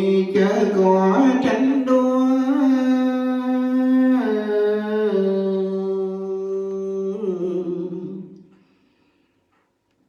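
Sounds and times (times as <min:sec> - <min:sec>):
person chanting: 0:00.0 - 0:08.4.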